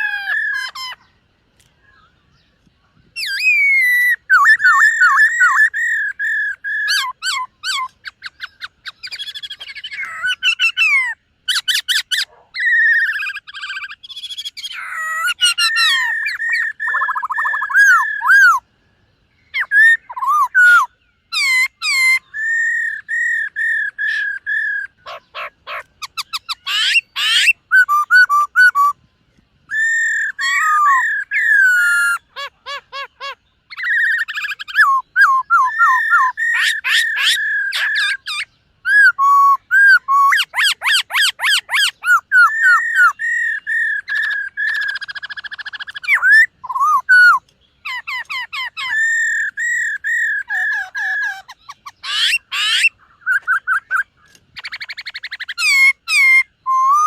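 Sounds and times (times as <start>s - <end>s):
bird singing whistles: 3.1s - 18.7s, 19.5s - 29.0s, 29.7s - 57.0s.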